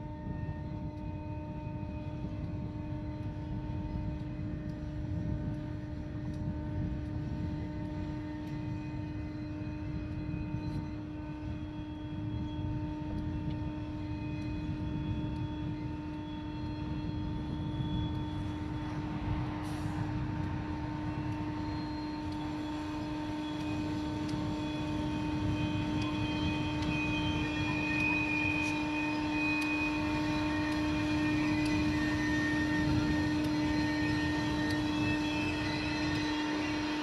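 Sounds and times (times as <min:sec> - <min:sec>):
faint high whining tones: 0:00.0 - 0:37.0
machine droning hum: 0:00.0 - 0:37.0.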